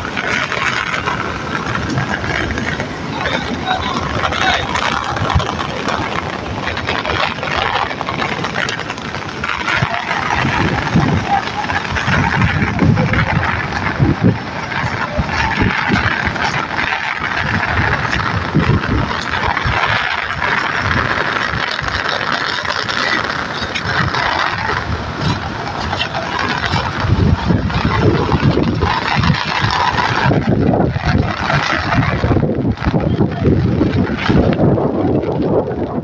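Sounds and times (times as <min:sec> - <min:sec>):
rushing wind: 0:00.0 - 0:36.0
wind buffeting microphone: 0:00.0 - 0:36.0.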